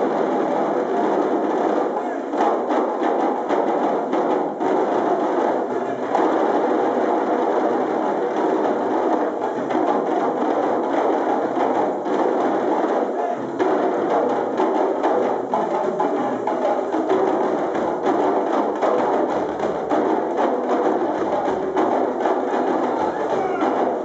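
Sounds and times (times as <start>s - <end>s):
djembe drums playing: 0.0s - 24.0s.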